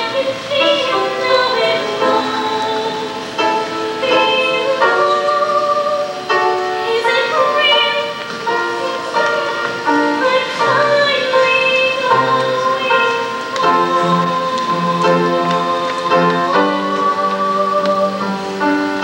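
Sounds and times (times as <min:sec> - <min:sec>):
girl singing: 0:00.0 - 0:19.0
instrumental accompaniment: 0:00.0 - 0:19.0.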